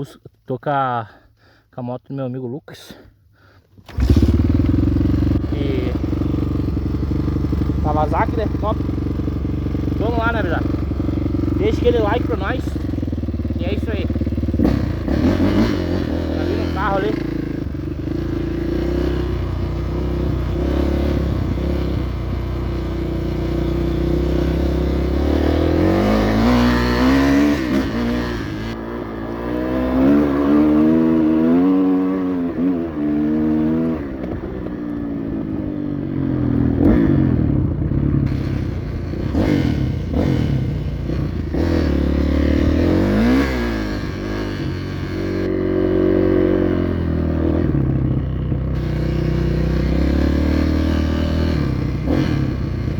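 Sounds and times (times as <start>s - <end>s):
motorcycle engine revving: 3.8s - 52.9s.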